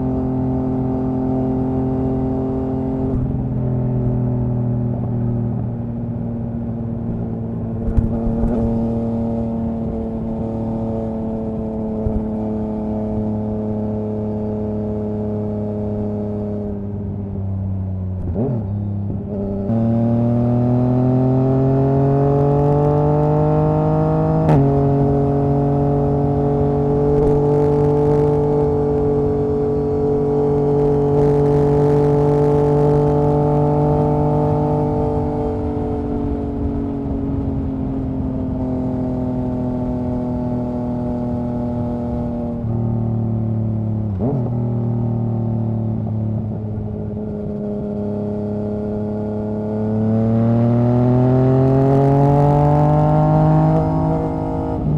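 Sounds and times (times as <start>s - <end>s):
motorcycle engine and exhaust: 0.0s - 54.9s.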